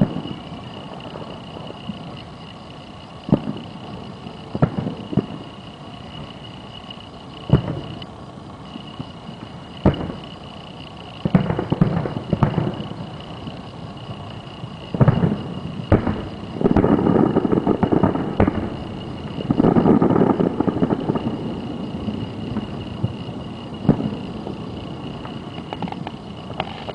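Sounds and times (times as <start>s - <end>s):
rapid rolling firework reports: 0.0s - 26.9s.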